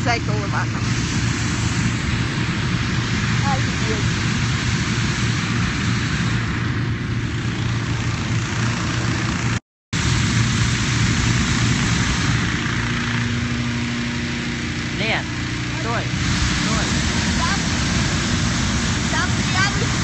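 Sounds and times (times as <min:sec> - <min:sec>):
inflator fan humming: 0:00.0 - 0:20.0.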